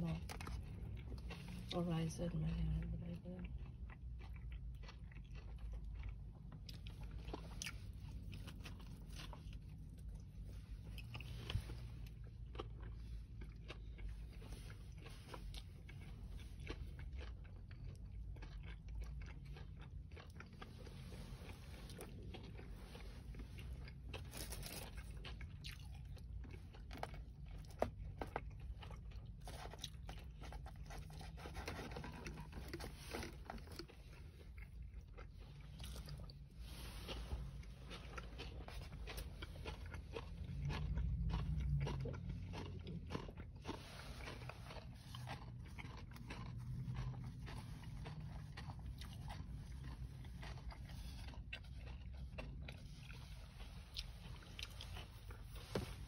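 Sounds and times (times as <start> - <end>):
chewing crispy fried chicken: 0.0 - 56.0
steady low hum: 0.0 - 56.0.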